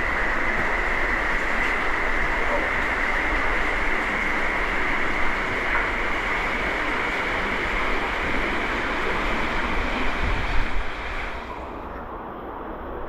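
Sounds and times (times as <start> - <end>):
flowing water rushing: 0.0 - 11.9.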